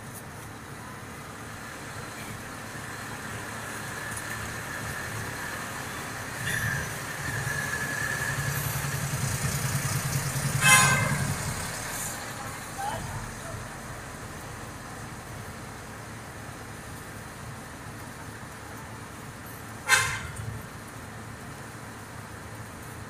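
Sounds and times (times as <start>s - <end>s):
bus engine rumbling: 0.0s - 23.0s
bus passing: 0.0s - 23.0s.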